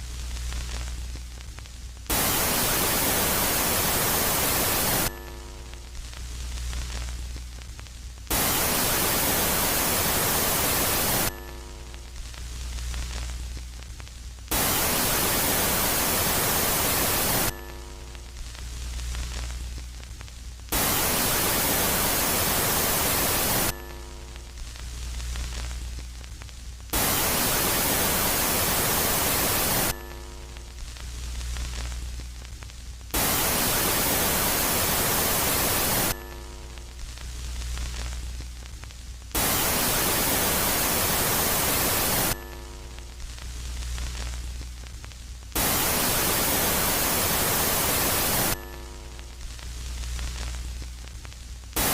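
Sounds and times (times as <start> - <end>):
electronic static hiss: 0.0 - 51.9.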